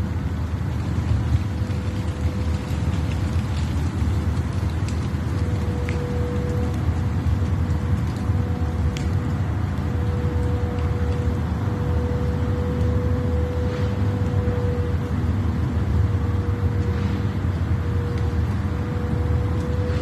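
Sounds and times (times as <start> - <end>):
steady mid-pitched hum: 0.0 - 20.0
vehicle low rumble: 0.0 - 20.0.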